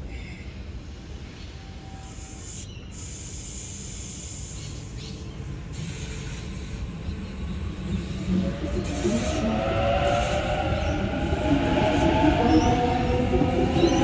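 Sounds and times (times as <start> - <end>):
electric train rumble and hiss: 0.0 - 14.0.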